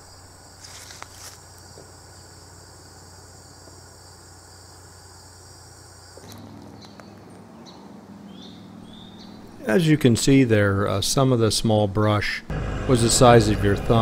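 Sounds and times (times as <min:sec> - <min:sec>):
crickets trilling: 0:00.0 - 0:11.8.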